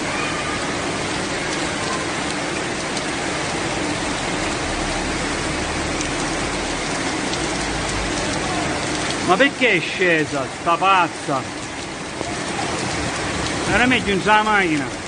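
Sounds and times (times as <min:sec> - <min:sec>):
floodwater rushing: 0:00.0 - 0:15.0
torrential rain pouring: 0:00.0 - 0:15.0.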